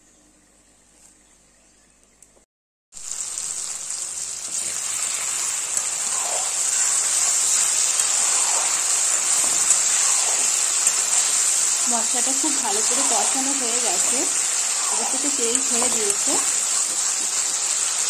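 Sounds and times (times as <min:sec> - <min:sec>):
paste sizzling in hot oil: 0:03.0 - 0:18.0.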